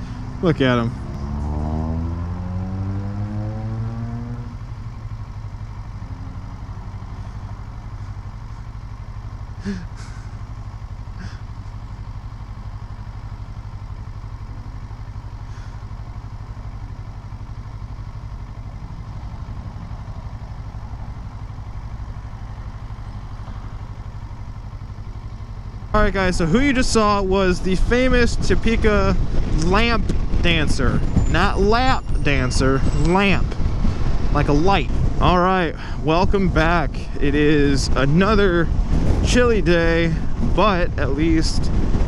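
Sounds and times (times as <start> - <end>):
motorcycle engine idling: 0.0 - 1.5, 3.2 - 42.0.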